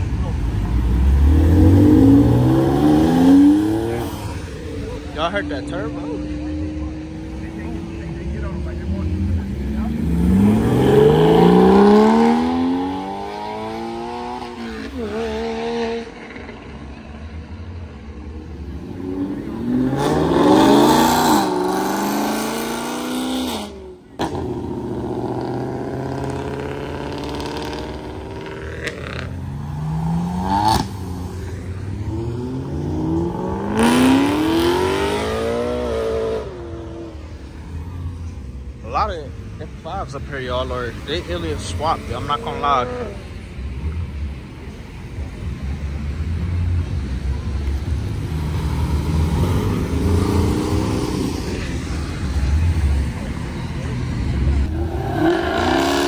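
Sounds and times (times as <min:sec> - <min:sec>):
sports car engines accelerating hard: 0:00.0 - 0:56.0.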